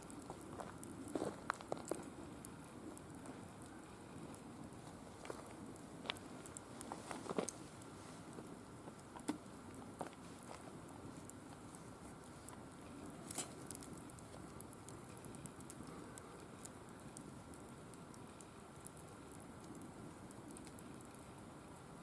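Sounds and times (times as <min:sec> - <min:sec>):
fire crackling: 0:00.0 - 0:22.0
fire popping: 0:00.0 - 0:22.0.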